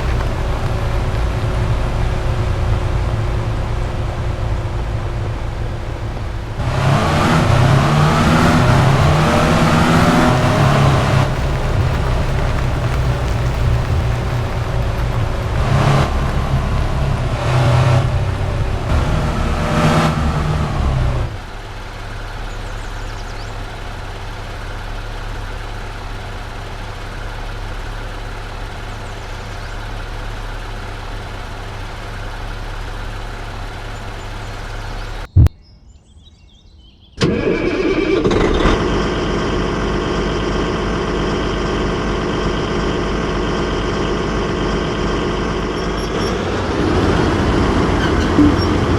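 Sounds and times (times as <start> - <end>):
engine starting with higher hum: 0.0 - 35.5, 37.2 - 48.9
heavy vehicle engine running: 0.0 - 35.5, 37.2 - 48.9.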